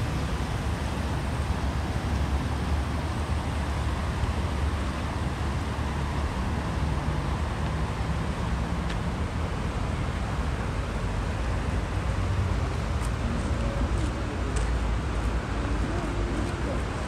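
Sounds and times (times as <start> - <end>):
street ambience with low rumble: 0.0 - 17.0.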